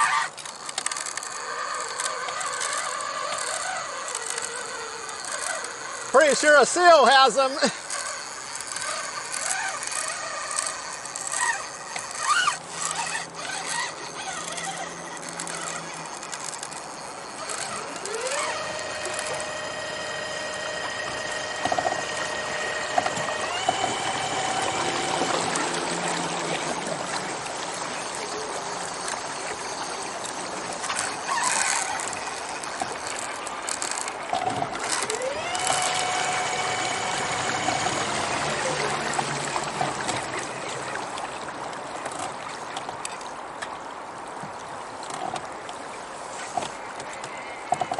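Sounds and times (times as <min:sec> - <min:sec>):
motor whining: 0:00.0 - 0:43.2
water rushing along hull: 0:00.0 - 0:47.9.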